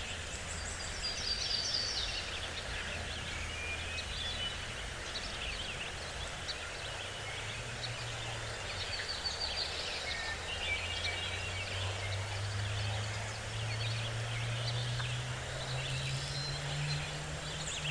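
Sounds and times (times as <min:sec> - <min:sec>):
forest birds chirping and trilling: 0:00.0 - 0:17.9.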